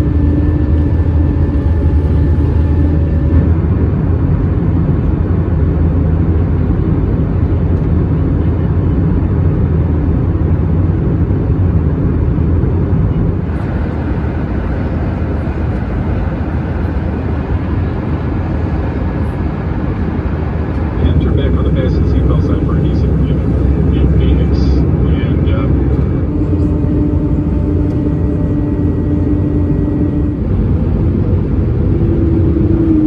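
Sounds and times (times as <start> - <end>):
rushing airflow: 0.0 - 8.3, 9.1 - 33.0
jet engine drone: 0.0 - 33.0.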